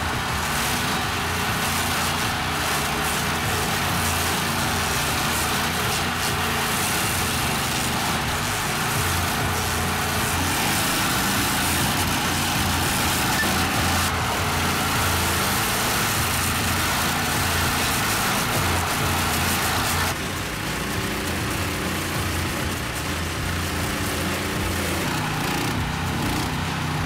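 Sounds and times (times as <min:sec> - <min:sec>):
cutter wheel grinding stump: 0:00.0 - 0:27.0
stump grinder engine running: 0:00.0 - 0:27.0.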